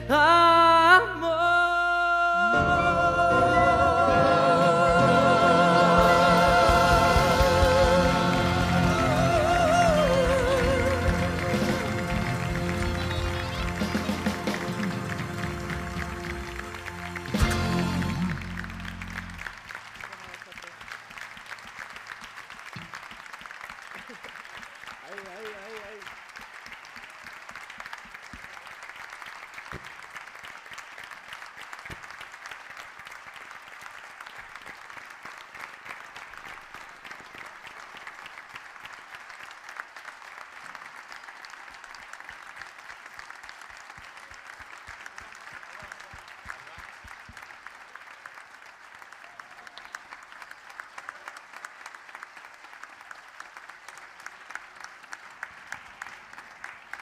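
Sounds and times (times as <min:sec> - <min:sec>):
audience applauding: 0:03.2 - 0:57.0.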